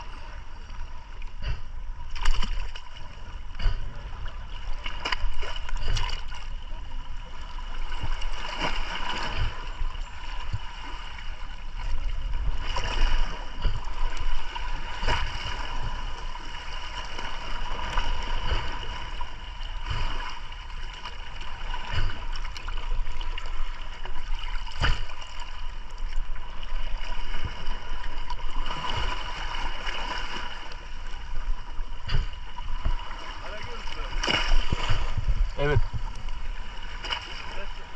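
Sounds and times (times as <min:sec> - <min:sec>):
small water splashes: 0:00.0 - 0:37.9
water sloshing and gurgling: 0:00.0 - 0:37.9.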